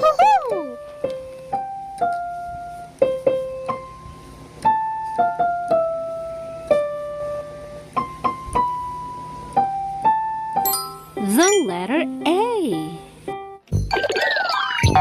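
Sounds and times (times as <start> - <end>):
slow piano melody: 0.0 - 13.7.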